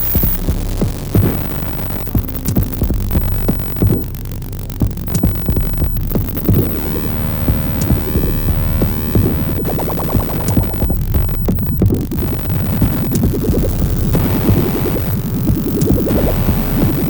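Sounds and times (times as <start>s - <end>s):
drum hits: 0.0s - 4.1s, 4.8s - 6.8s, 7.4s - 17.0s
sweeping synthesizer layer: 0.0s - 17.0s
throbbing bass: 0.0s - 17.0s.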